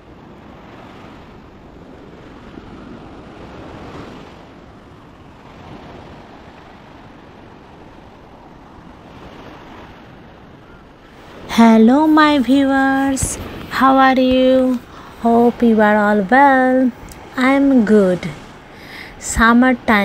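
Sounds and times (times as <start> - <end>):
small waves breaking on beach: 0.0 - 20.0
wind buffeting microphone: 0.0 - 20.0.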